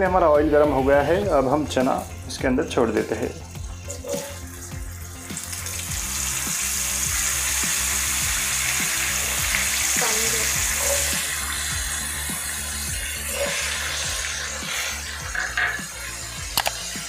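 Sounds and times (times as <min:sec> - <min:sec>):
chickpeas sizzling in hot oil: 0:01.1 - 0:17.0.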